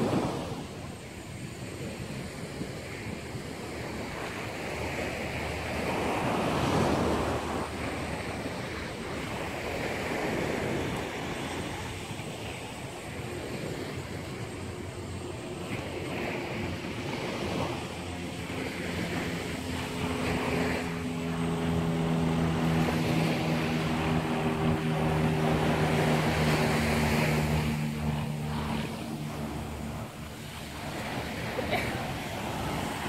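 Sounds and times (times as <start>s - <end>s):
passing motor drone: 0.0s - 33.0s
surf: 0.0s - 33.0s
wind on microphone: 0.0s - 33.0s.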